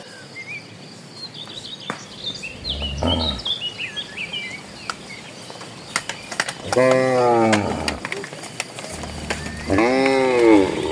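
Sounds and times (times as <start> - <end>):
rural outdoor background: 0.4 - 8.2, 8.9 - 10.9
small birds chirping: 0.9 - 8.0, 8.9 - 10.9.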